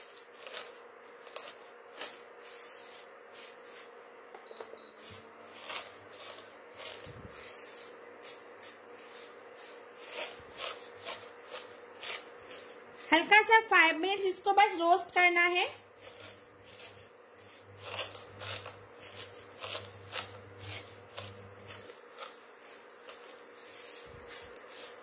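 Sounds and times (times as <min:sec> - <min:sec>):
spatula scraping in pan: 0:00.0 - 0:04.0, 0:04.8 - 0:25.0.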